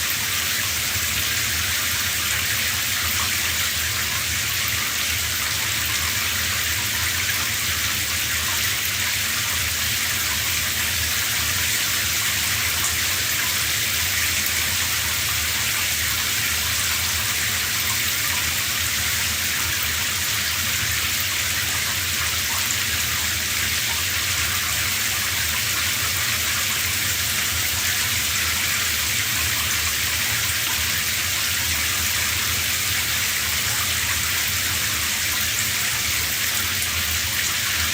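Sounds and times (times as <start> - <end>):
shower running: 0.0 - 37.9.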